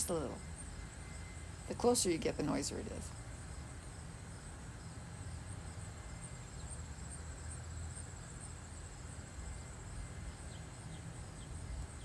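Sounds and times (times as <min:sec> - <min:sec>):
distant engines droning: 0:00.0 - 0:12.0
insects chirping trill: 0:00.0 - 0:12.0.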